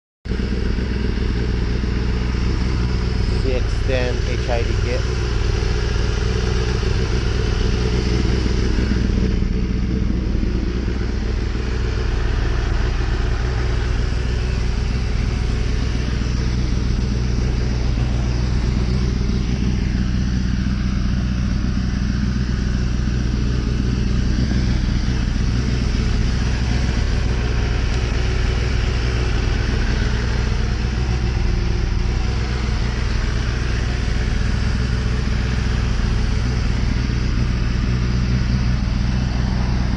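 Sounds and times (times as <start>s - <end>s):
motorcycle engine idling: 0.3s - 39.9s.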